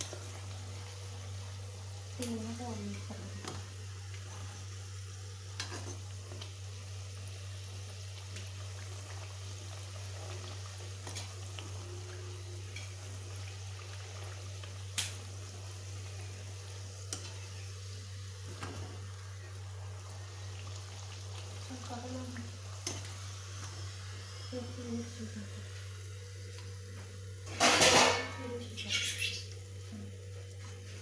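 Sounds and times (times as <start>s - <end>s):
food frying in oil: 0.0s - 31.0s.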